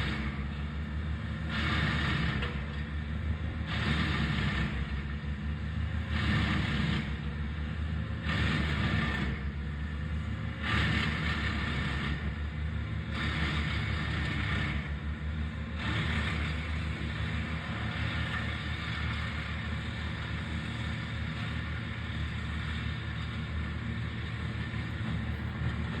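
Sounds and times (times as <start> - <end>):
engine running with low rumble: 0.0 - 26.0.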